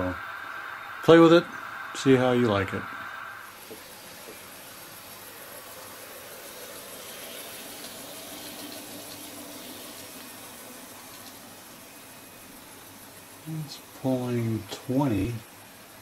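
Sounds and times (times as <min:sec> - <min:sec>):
faint hum: 0:00.0 - 0:16.0
model train wheels and motor: 0:00.0 - 0:16.0.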